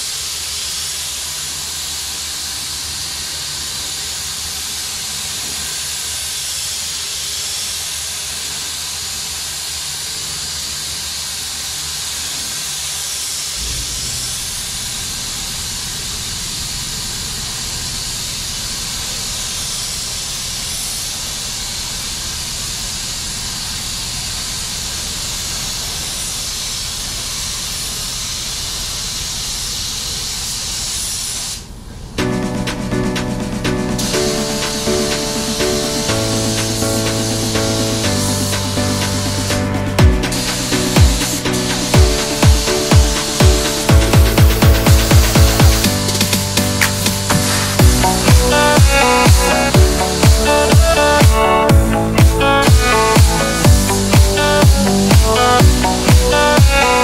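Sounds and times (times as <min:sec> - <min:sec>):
paint spray gun hissing: 0:00.0 - 0:31.8, 0:34.0 - 0:57.0.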